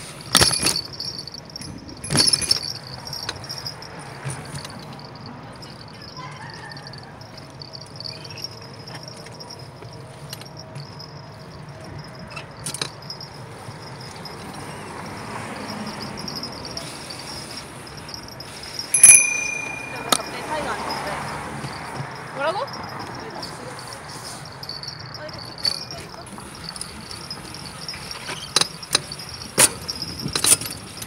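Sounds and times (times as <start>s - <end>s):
bicycle rattles and clicks: 0.0s - 31.0s
bicycle rolling: 0.0s - 31.0s
bicycle bell ringing: 0.3s - 31.0s.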